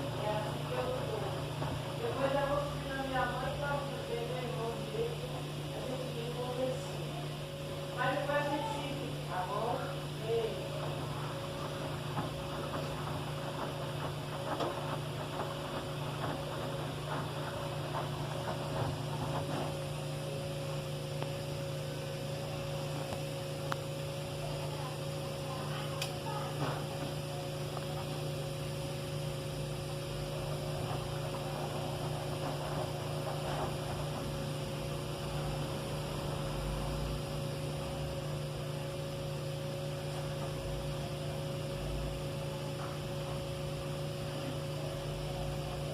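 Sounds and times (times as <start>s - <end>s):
washing machine humming: 0.0s - 45.9s.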